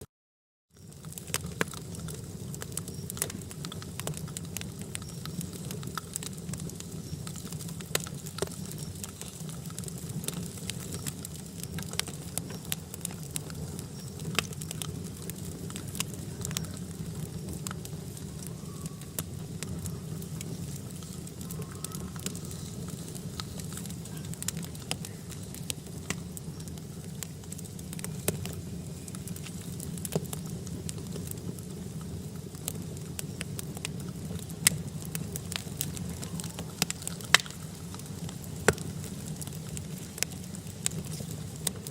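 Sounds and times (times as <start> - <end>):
campfire crackling: 0.8 - 41.9
low fire rumble: 0.8 - 41.9
sharp fire pops: 0.9 - 41.9.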